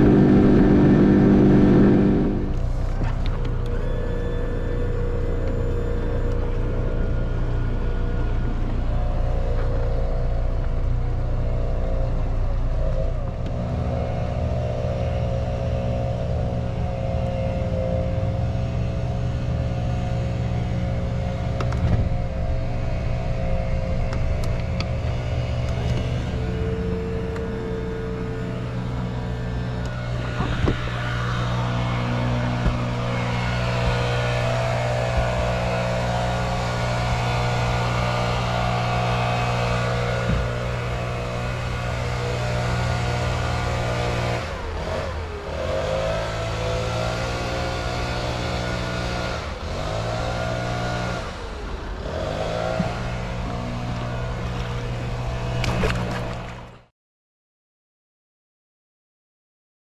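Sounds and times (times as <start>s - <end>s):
outboard motor droning: 0.0s - 56.9s.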